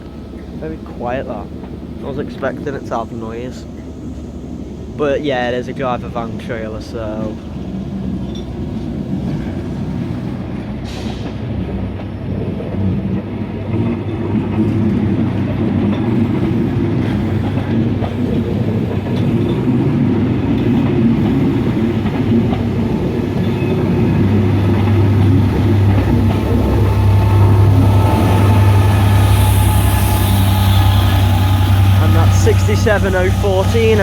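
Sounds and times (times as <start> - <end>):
diesel locomotive droning: 0.0 - 34.0
train wheels clicking over rail joints: 0.0 - 34.0.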